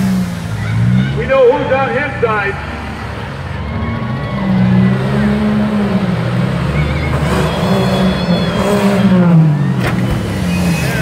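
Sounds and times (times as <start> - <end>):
truck engines racing: 0.0 - 11.0.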